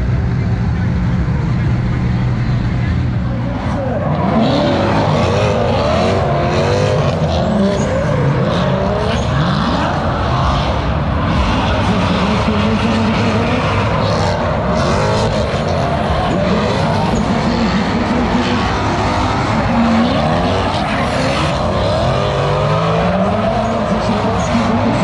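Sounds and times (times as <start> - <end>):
car engines revving: 0.0 - 25.0
tyres skidding and squealing: 0.0 - 25.0.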